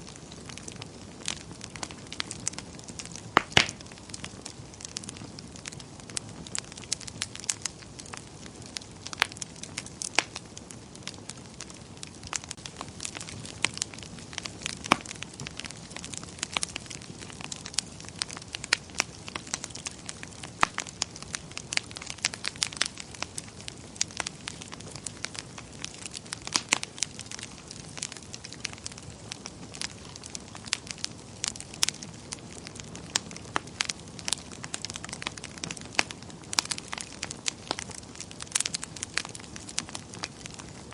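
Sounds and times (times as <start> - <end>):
low rush of flame: 0.0 - 40.9
wood fire crackling and popping: 0.0 - 40.9.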